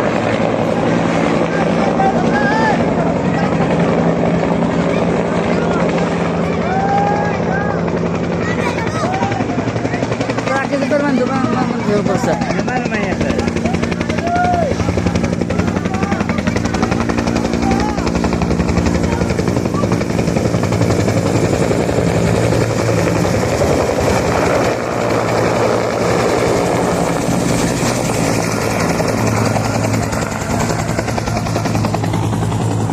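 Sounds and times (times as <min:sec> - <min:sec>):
helicopter rotor blades chopping: 0:00.0 - 0:32.9
faint voices: 0:00.1 - 0:32.9.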